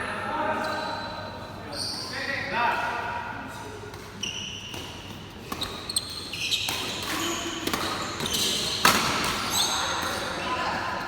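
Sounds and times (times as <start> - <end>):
shoes squeaking on court floor: 0.6 - 2.9, 3.5 - 11.0.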